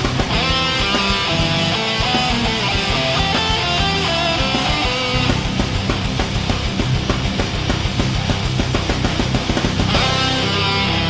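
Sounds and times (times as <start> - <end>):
rock music guitar and drums: 0.0 - 11.0.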